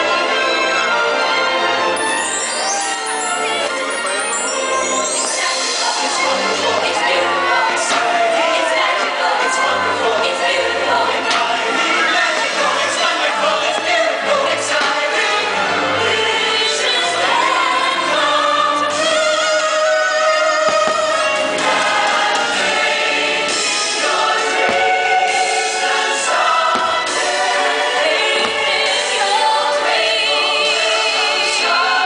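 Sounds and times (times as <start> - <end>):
orchestra with choir singing: 0.0 - 32.0.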